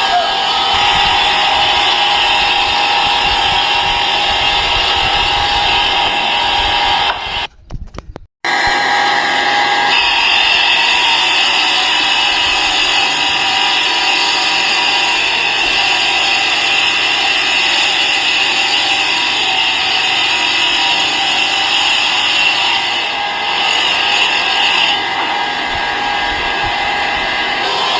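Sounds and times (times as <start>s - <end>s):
machine tool whining: 0.0s - 7.7s, 8.5s - 27.9s.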